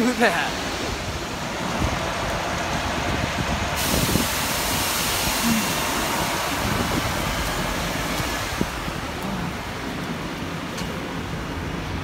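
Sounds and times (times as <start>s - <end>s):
passing street traffic: 0.0s - 12.0s
wind buffeting microphone: 0.5s - 12.0s.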